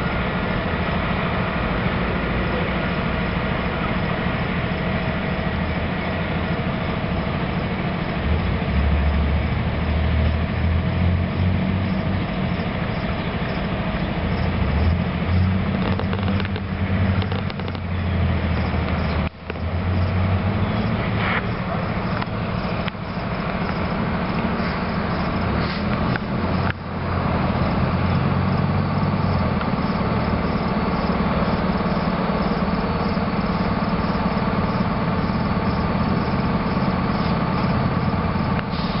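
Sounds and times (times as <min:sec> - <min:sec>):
diesel locomotive engine drone: 0:00.0 - 0:39.0
train cars rumbling on rails: 0:00.0 - 0:39.0.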